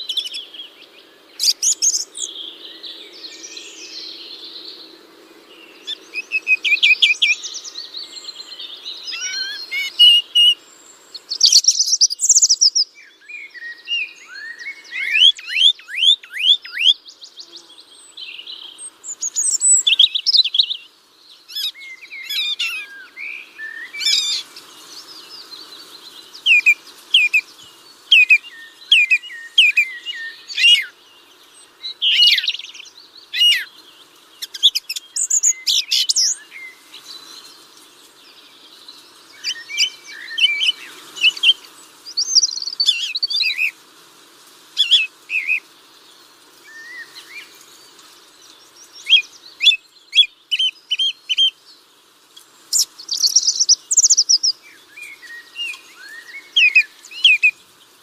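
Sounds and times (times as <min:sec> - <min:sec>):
birds chirping and singing: 0:00.0 - 0:43.8, 0:44.8 - 0:58.0.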